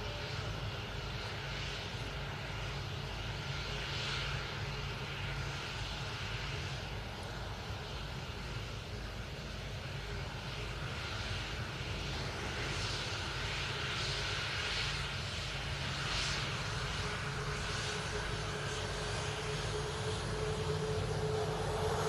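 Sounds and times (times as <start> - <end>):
jet engines rumbling with whine: 0.0 - 22.0.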